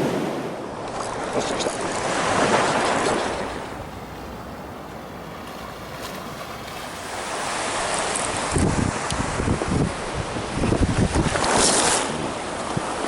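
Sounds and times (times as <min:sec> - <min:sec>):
waves breaking: 0:00.0 - 0:13.0
wind on microphone: 0:00.0 - 0:13.0.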